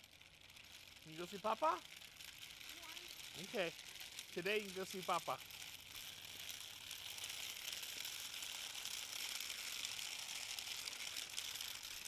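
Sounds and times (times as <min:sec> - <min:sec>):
plastic wheels rattling on asphalt: 0:00.0 - 0:12.0.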